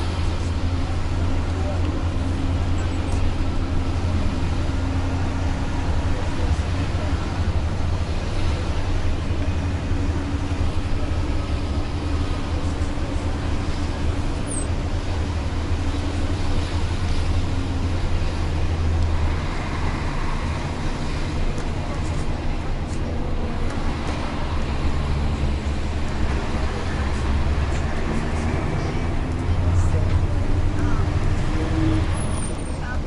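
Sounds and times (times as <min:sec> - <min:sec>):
bus engine running: 0:00.0 - 0:33.0
road and tyre noise: 0:00.0 - 0:33.0.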